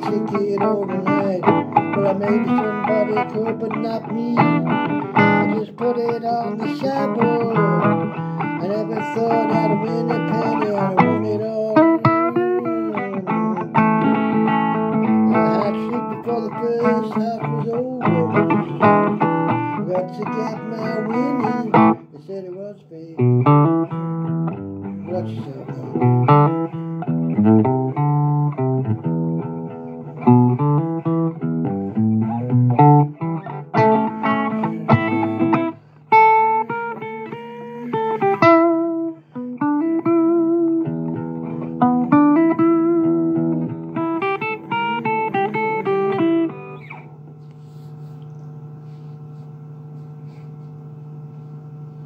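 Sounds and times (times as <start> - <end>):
plucked guitar music: 0.0 - 47.9
steady low hum: 0.0 - 52.0.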